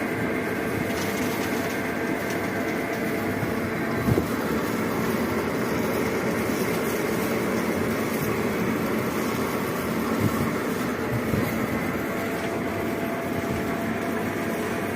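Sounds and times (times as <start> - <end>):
lathe running: 0.0 - 14.9.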